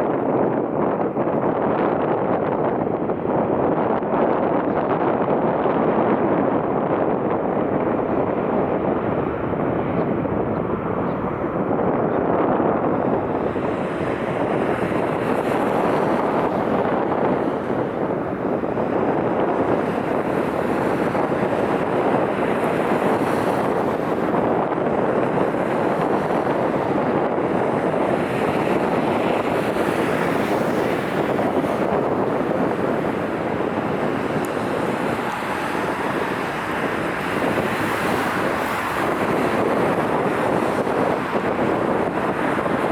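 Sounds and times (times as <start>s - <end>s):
strong wind buffeting microphone: 0.0s - 42.9s.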